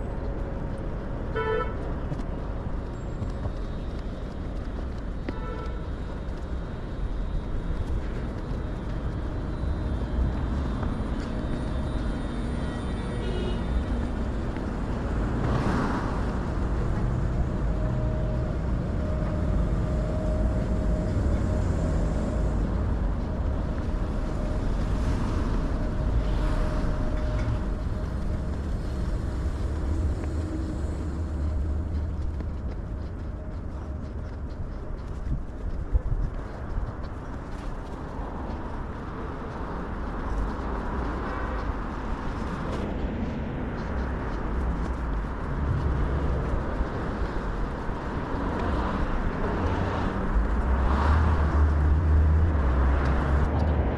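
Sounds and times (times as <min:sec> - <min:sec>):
traffic rumble: 0:00.0 - 0:53.9.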